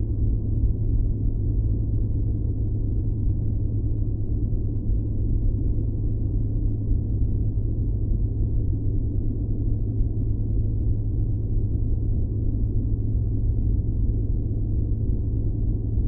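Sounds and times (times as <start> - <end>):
deep white noise rumble: 0.0 - 16.0.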